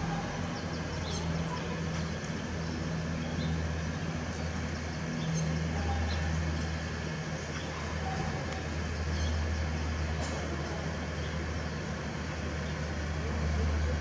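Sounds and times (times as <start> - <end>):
turboprop aircraft drone: 0.0 - 14.0.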